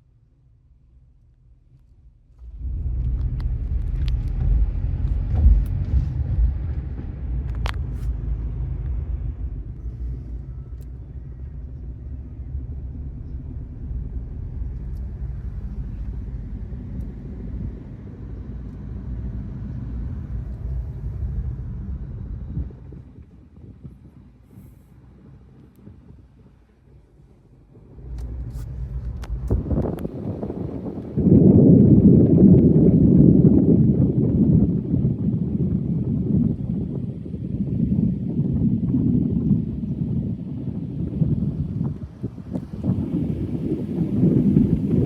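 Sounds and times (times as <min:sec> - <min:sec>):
vehicle rumbling in motion: 0:00.0 - 0:45.0.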